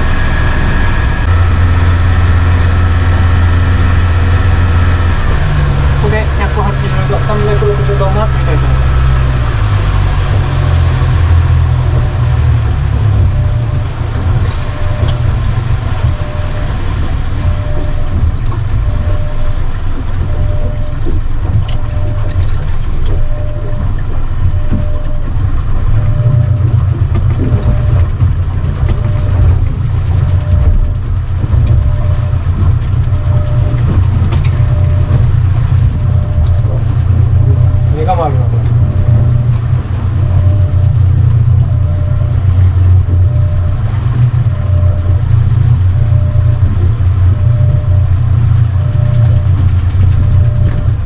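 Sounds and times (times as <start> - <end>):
boat engine drone: 0.0 - 51.0
wind and water rush: 0.0 - 51.0.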